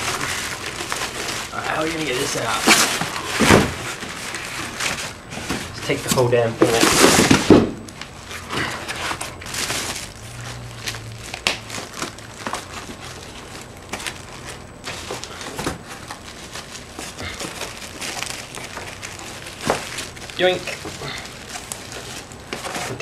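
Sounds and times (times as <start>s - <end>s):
box packaging rustling and crinkling: 0.0s - 23.0s.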